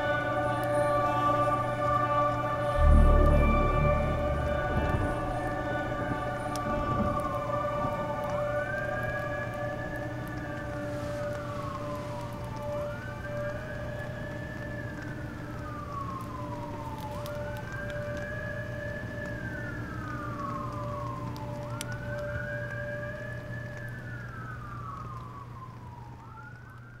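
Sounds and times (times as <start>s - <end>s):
campfire crackling: 0.0s - 27.0s
police siren wailing: 0.0s - 27.0s.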